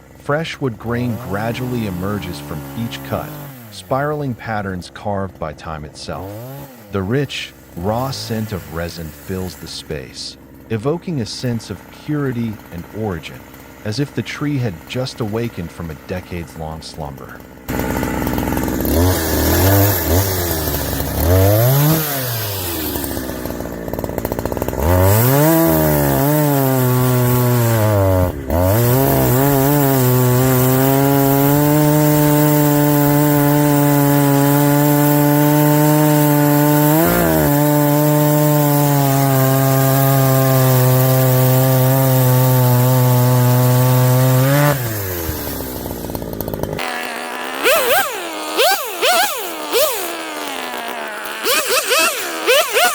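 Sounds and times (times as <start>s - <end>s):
chainsaw cutting log: 0.0s - 52.9s.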